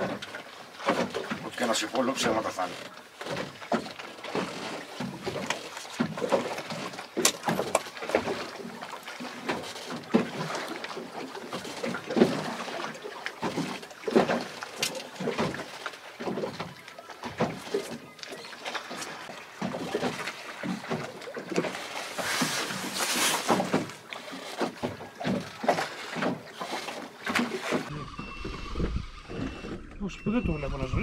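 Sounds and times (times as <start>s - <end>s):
water slapping boat hull: 0.0s - 31.0s.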